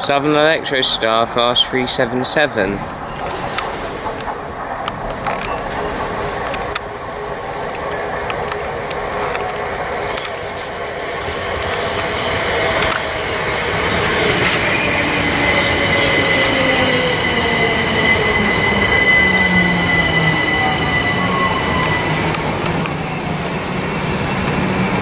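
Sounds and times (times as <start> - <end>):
electric train running by: 0.0 - 25.0
high-pitched train whine: 0.0 - 25.0
train wheel clicks: 0.8 - 25.0.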